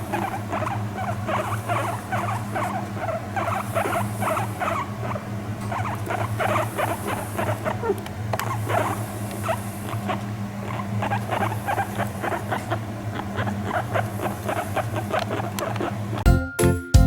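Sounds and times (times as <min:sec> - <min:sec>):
guinea pig squeaking softly: 0:00.0 - 0:16.3
steady low hum: 0:00.0 - 0:16.3.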